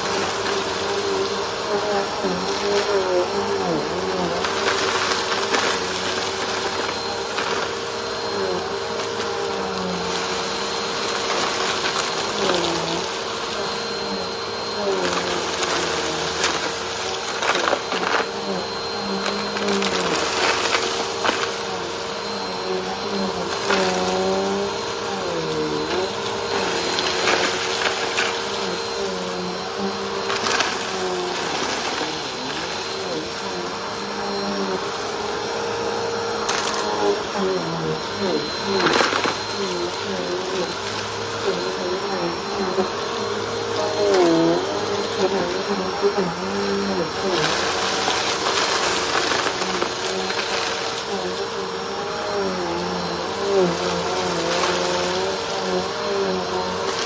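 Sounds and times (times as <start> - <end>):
crumbs crackling being sucked up: 0.0 - 57.0
vacuum cleaner running: 0.0 - 57.0.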